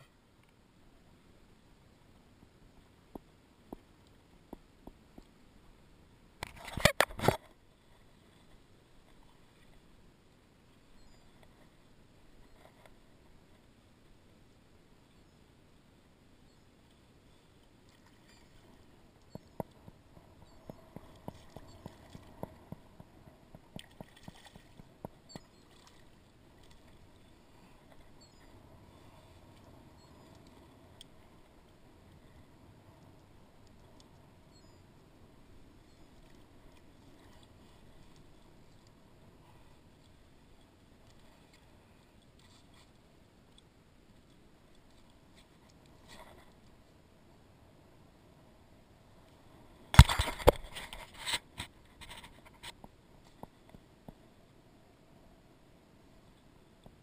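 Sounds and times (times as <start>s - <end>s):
faint background hiss: 0.0s - 57.0s
water: 0.0s - 57.0s
wind: 0.0s - 57.0s.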